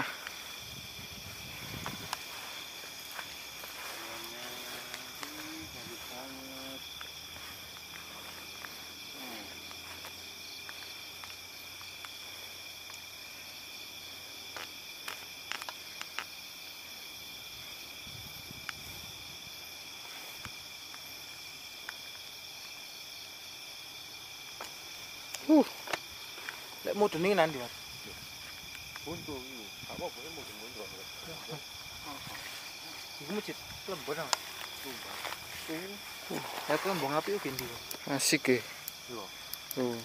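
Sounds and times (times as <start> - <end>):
night insect chorus: 0.0 - 40.0.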